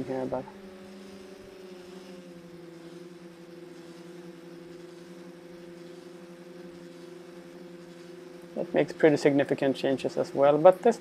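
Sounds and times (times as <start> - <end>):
multirotor propellers droning: 0.0 - 11.0.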